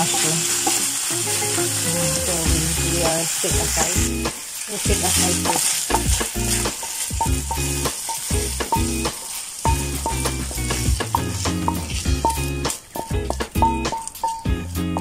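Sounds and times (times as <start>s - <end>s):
background music: 0.0s - 15.0s
meat sizzling in a pan: 0.0s - 15.0s
wooden spatula stirring: 0.0s - 15.0s.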